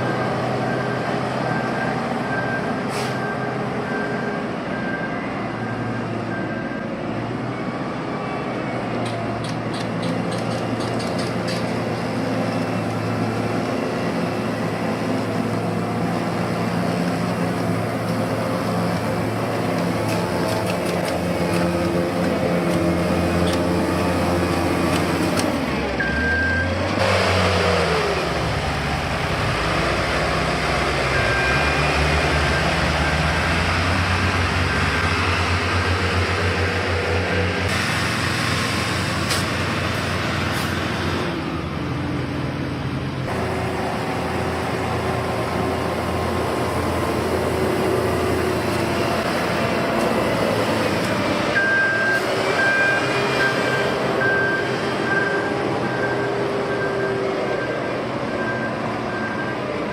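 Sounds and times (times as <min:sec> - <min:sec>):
heavy construction machinery running: 0:00.0 - 0:59.9.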